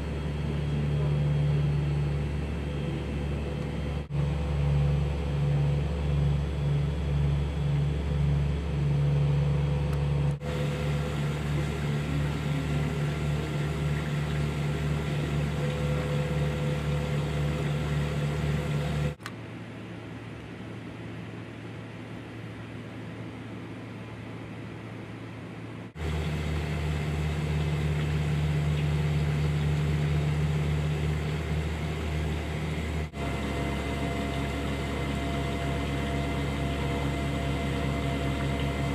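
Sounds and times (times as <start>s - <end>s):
vacuum pump humming and throbbing: 0.0s - 38.9s.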